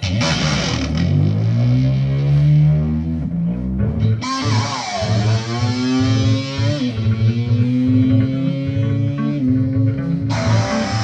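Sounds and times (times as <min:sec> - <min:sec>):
rock music with electric guitar: 0:00.0 - 0:02.6, 0:03.3 - 0:11.0.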